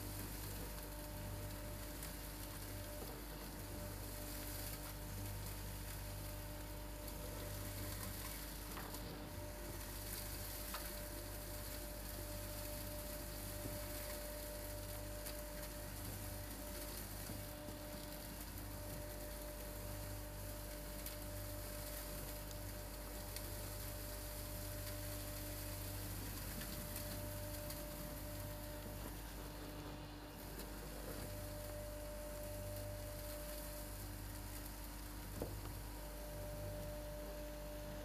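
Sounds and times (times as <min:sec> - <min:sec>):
vacuum running: 0:00.0 - 0:38.0.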